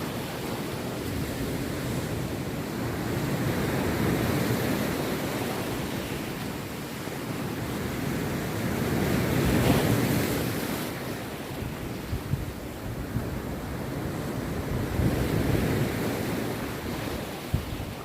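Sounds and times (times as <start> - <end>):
sea waves breaking on beach: 0.0 - 18.0
wind on microphone: 0.0 - 18.0.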